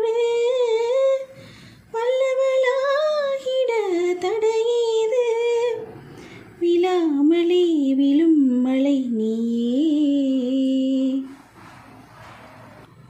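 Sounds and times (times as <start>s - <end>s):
woman singing unaccompanied: 0.0s - 11.4s.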